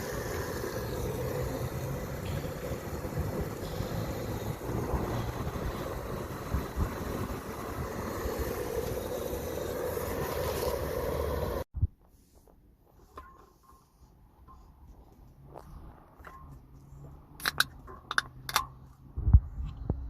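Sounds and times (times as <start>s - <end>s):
vehicle road noise: 0.0s - 11.7s, 13.0s - 20.0s.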